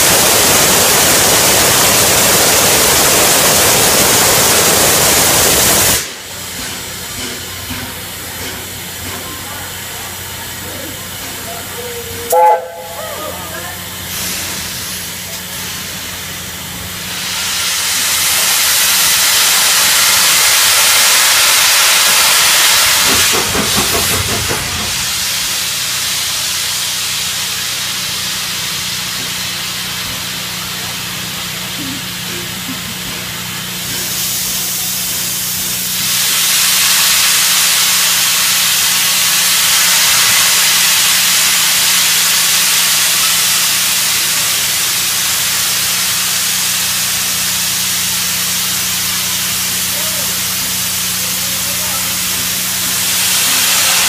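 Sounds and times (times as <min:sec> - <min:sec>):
steam locomotive venting steam: 0:00.0 - 0:54.0.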